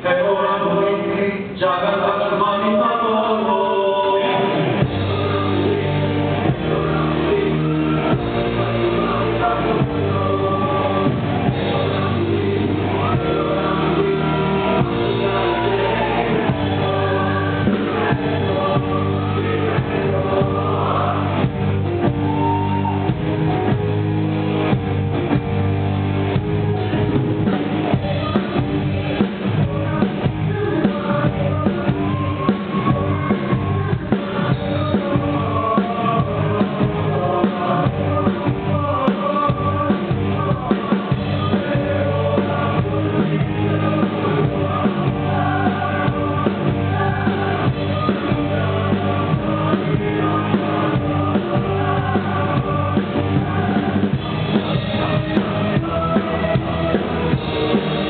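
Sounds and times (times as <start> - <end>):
band playing pop song: 0.0 - 58.0
choir singing: 1.9 - 23.2, 27.9 - 58.0.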